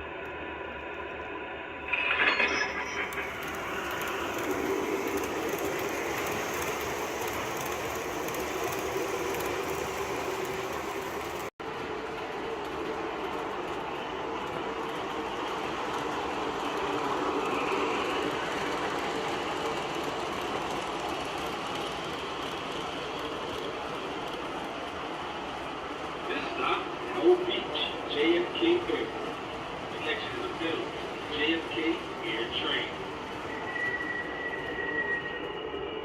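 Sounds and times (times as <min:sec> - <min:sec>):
model subway train running: 0:00.0 - 0:36.0.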